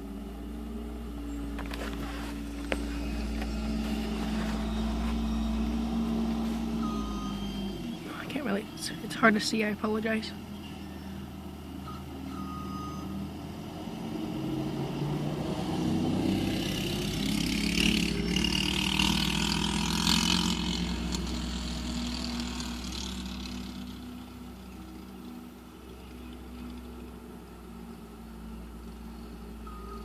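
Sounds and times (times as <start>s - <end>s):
vehicle passing by: 0.0s - 30.0s.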